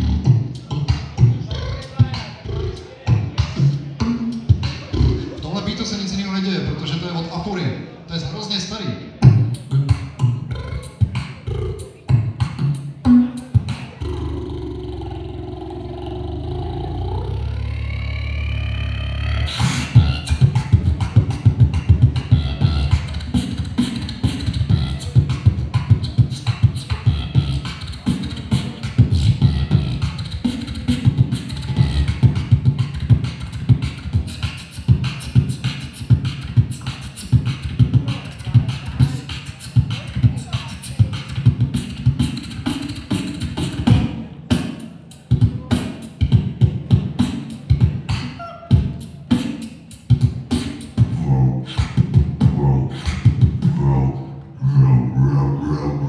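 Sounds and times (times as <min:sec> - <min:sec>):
beatboxing through a microphone: 0:00.0 - 0:56.0.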